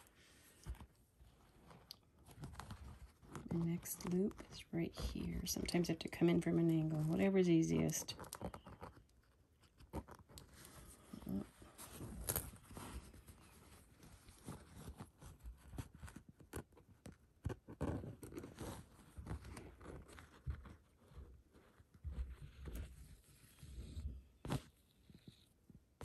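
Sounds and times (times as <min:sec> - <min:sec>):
fabric rustling and scratching: 0:00.0 - 0:25.5.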